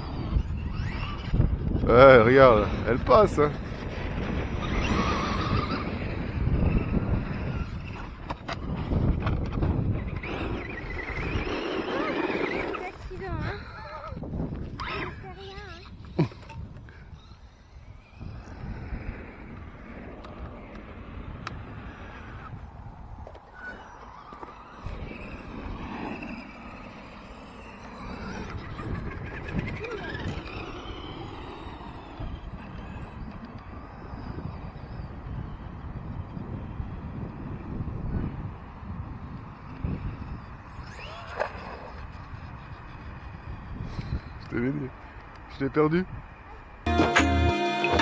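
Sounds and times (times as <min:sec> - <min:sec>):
electric toy truck motor whine: 0:00.0 - 0:01.8, 0:03.6 - 0:13.0, 0:14.6 - 0:44.4
wind buffeting microphone: 0:00.0 - 0:46.9.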